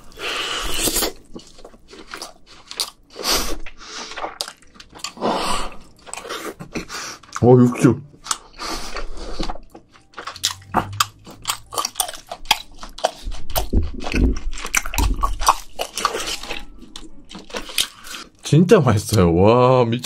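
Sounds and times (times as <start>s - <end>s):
person chewing meat: 0.0s - 18.4s.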